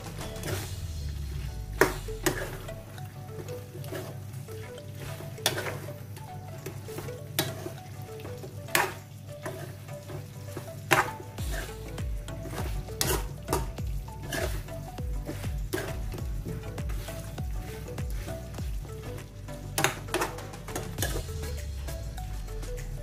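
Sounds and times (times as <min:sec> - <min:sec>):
sauce sizzling in frying pan: 0:00.0 - 0:20.4.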